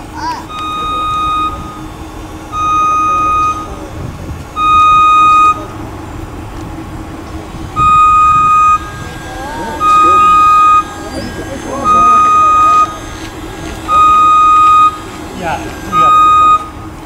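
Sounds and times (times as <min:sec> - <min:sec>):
steady low hum: 0:00.0 - 0:17.0
truck reversing alarm beeps: 0:00.0 - 0:17.0.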